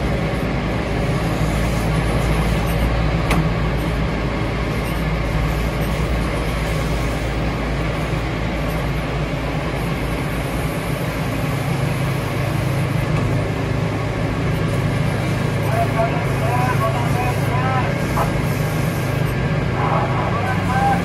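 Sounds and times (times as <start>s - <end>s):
tow tractor engine drone: 0.0s - 21.0s
tyre and road noise: 0.0s - 21.0s.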